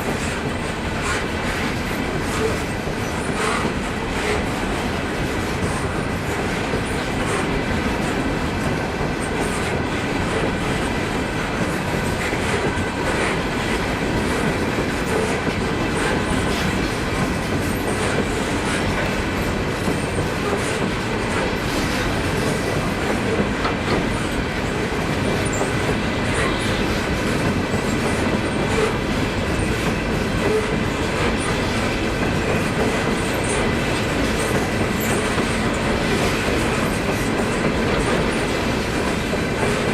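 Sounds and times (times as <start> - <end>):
clicking over rail joints: 0.0 - 39.9
railroad cars rolling past: 0.0 - 39.9.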